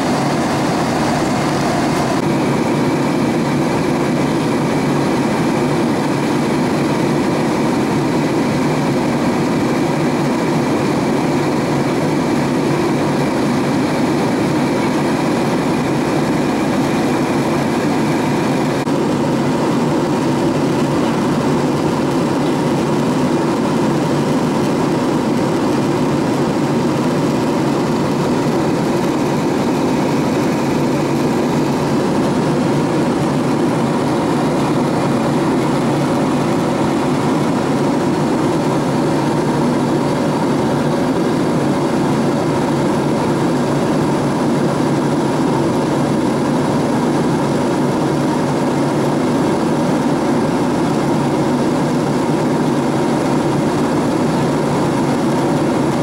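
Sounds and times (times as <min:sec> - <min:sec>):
airplane cabin roar: 0:00.0 - 0:56.0.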